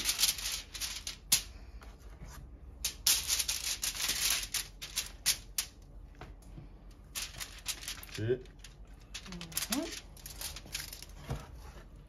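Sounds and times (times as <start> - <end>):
aluminium foil rustling and crinkling: 0.0 - 1.7, 2.7 - 5.9, 6.8 - 12.0.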